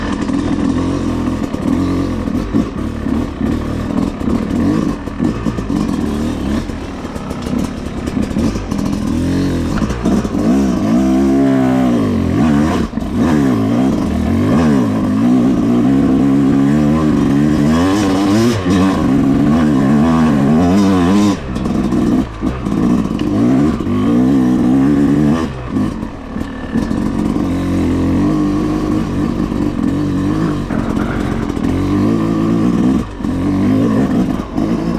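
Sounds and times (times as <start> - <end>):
dirt bike engine lugging: 0.0 - 34.9.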